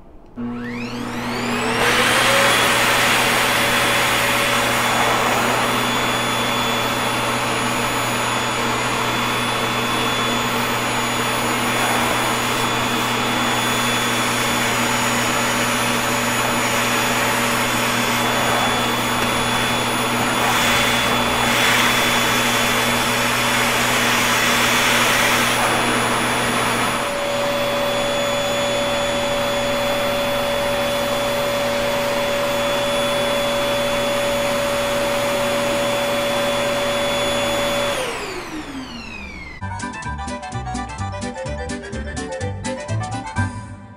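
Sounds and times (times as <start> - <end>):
vacuum cleaner running: 0.0 - 39.6
vacuum motor spinning down: 0.3 - 39.6.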